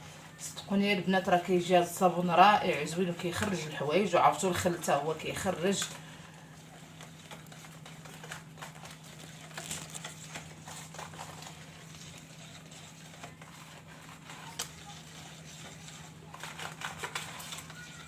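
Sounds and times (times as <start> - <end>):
utensil stirring thick mixture: 0.0 - 18.0.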